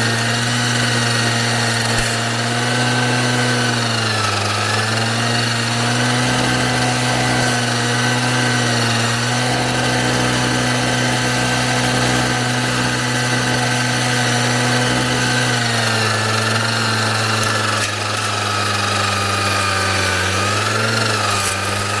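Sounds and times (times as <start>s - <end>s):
mower engine running: 0.0s - 22.0s.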